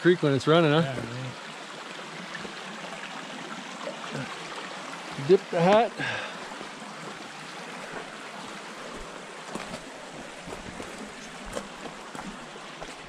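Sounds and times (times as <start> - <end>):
creek running water: 0.0 - 13.0.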